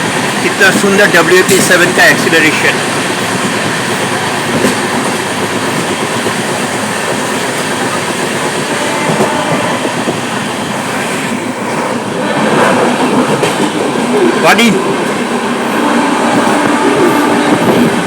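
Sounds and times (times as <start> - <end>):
train clickety-clack: 0.0 - 18.0
train wheel and rail noise: 0.0 - 18.0.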